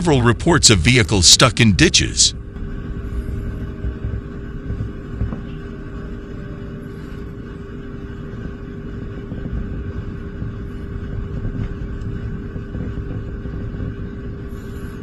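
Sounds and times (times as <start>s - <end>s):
faint constant hum: 0.0s - 15.0s
low steady rumble: 0.0s - 15.0s.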